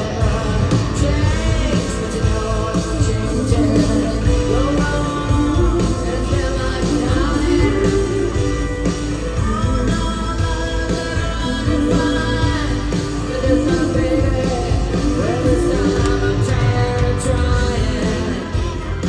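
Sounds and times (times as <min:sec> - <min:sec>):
live rock band playing: 0:00.0 - 0:19.0
woman singing lead: 0:00.0 - 0:19.0.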